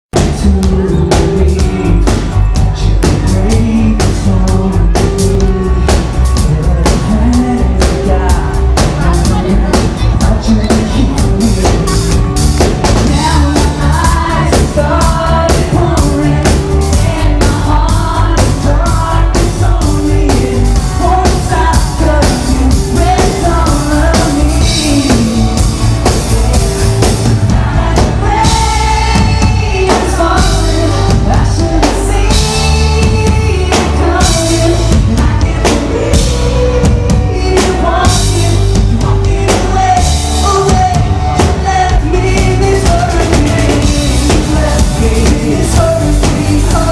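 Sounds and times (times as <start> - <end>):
live pop-rock band playing: 0.1 - 46.9
lead vocals: 0.2 - 46.9.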